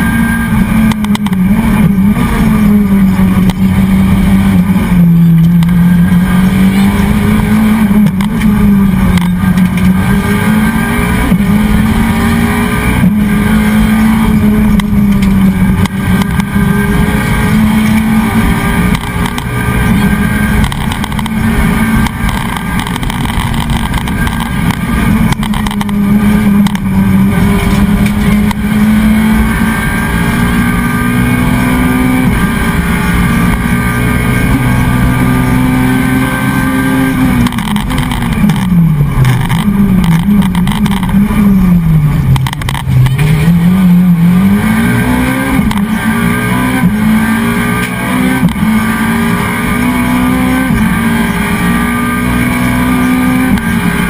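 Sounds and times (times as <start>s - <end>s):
rally car engine at hard throttle: 0.0s - 54.0s.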